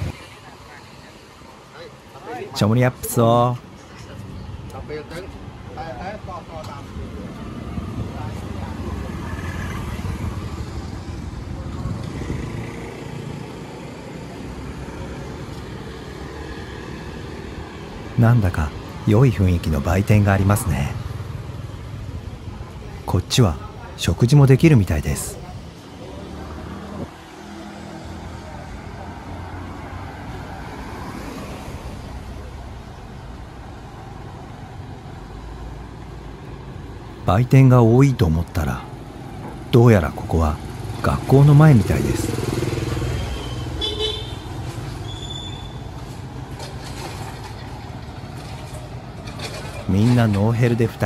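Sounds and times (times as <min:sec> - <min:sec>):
road traffic engine rumble: 0:00.0 - 0:51.0.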